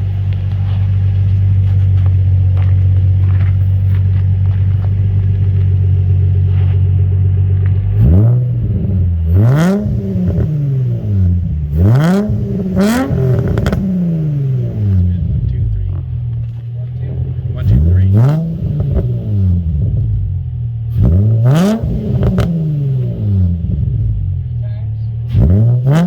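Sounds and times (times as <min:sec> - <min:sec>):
car engine idling: 0:00.0 - 0:26.0
car engine revving: 0:00.0 - 0:26.0.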